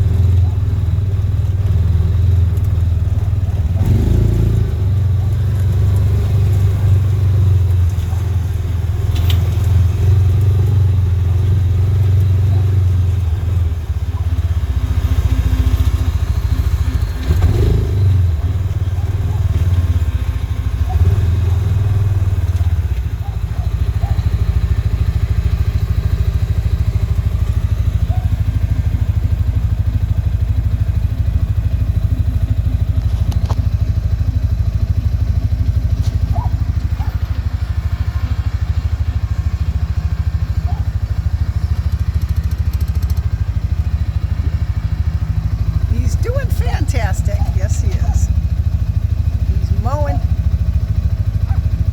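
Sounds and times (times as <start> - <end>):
engine running low rumble: 0.0 - 51.9.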